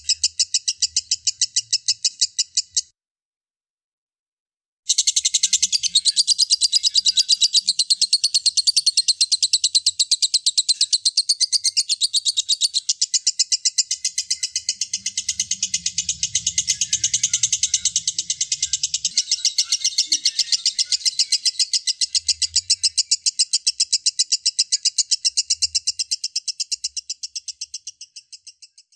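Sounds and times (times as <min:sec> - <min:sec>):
bird trilling high chirps: 0:00.0 - 0:02.9, 0:04.9 - 0:28.9.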